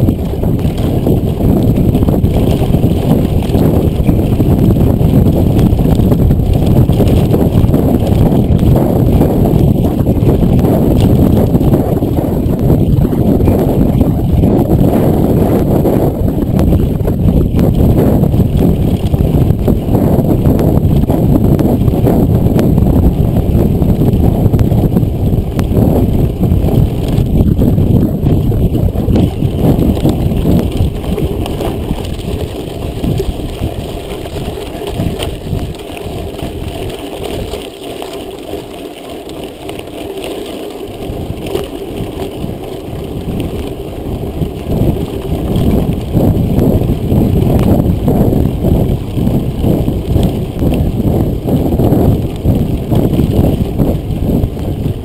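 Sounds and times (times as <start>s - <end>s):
bike rattling over dirt: 0.0s - 55.0s
wind buffeting microphone: 0.0s - 55.0s.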